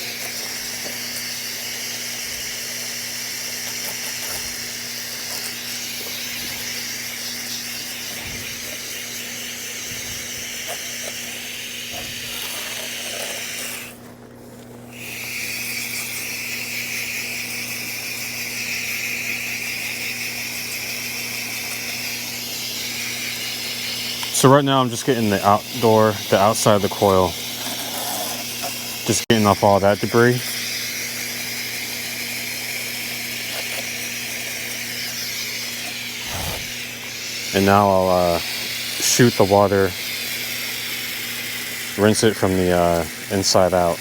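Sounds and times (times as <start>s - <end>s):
hose spray hissing: 0.0s - 13.9s, 20.1s - 44.0s.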